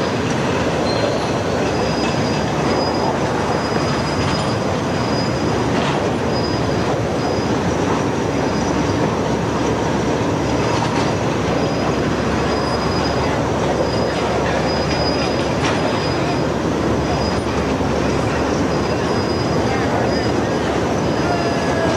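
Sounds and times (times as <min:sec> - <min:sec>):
high wheel squeal: 0:00.0 - 0:09.0, 0:10.7 - 0:21.9
train wheels rumbling on rails: 0:00.0 - 0:21.9.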